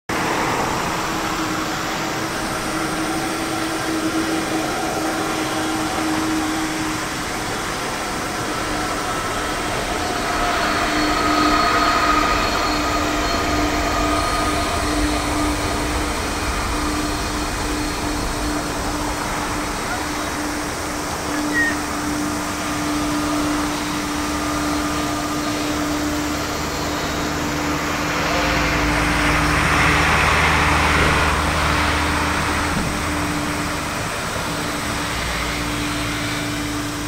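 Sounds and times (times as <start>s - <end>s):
jet engines humming with whine: 0.1s - 37.0s.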